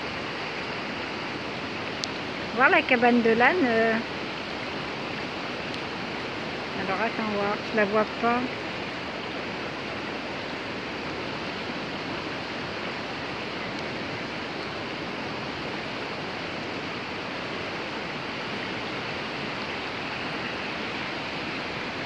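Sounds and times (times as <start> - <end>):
rushing floodwater: 0.0 - 22.0.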